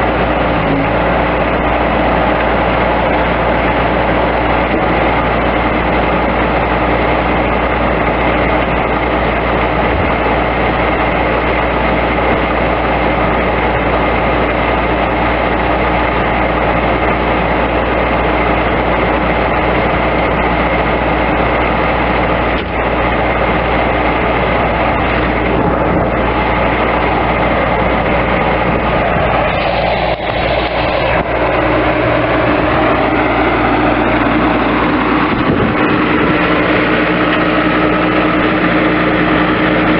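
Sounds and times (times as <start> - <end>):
loader diesel engine running: 0.0 - 39.9.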